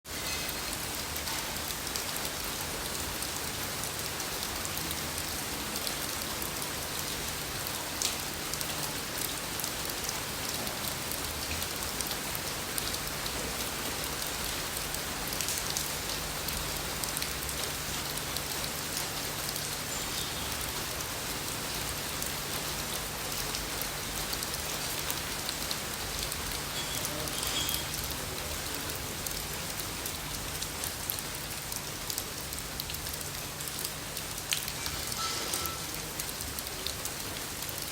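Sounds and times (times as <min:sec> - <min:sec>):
rain falling: 0:00.1 - 0:37.9
raindrops ticking: 0:00.3 - 0:37.9.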